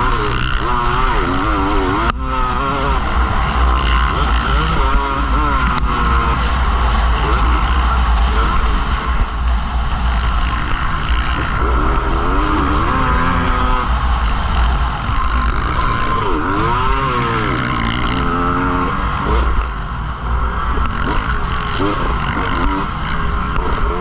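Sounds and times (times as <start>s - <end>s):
motorcycle engines revving: 0.0s - 24.0s
steady low rumble: 0.0s - 24.0s.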